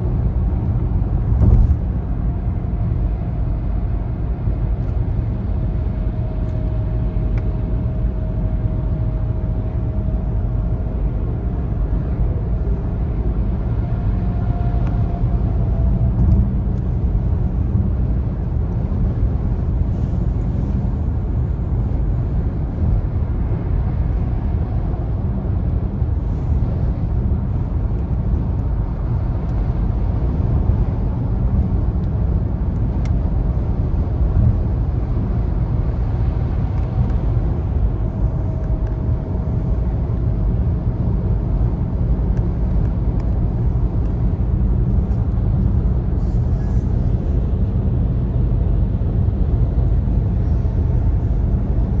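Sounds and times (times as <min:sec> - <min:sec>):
engine drone: 0:00.0 - 0:52.0
road and tyre noise: 0:00.0 - 0:52.0.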